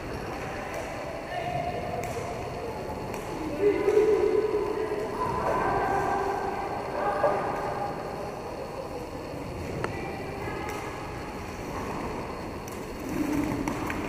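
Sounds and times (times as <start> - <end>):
roller skate wheels rolling: 0.0 - 14.0.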